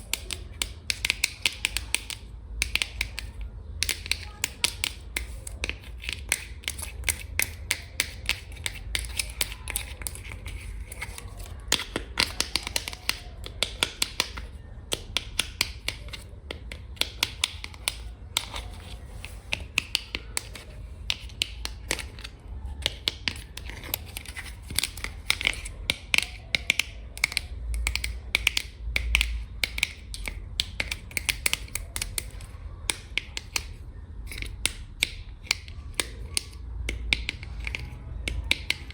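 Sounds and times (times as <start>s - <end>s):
fingernails tapping on containers: 0.0s - 38.9s.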